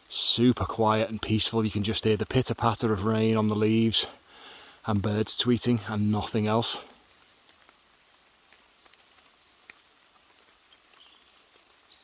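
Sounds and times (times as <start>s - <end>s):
rain patter on leaves: 0.0s - 12.0s.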